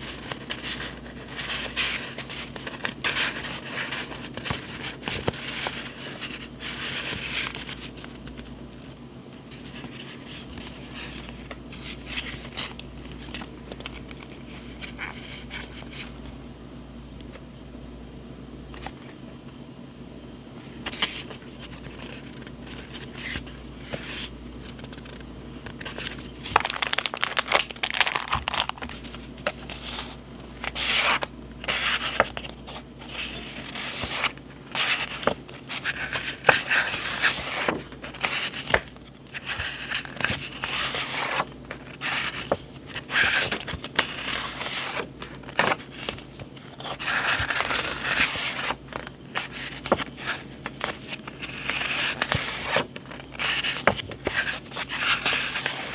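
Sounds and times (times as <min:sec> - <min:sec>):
paper rustling and crinkling: 0:00.0 - 0:16.3, 0:20.6 - 0:55.9.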